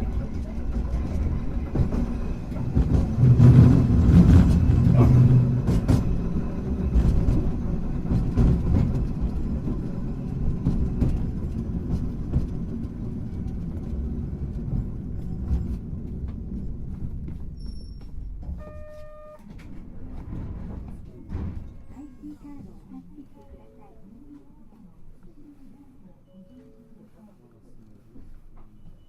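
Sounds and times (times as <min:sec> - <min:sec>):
tram wheels rumbling on rails: 0:00.0 - 0:23.5.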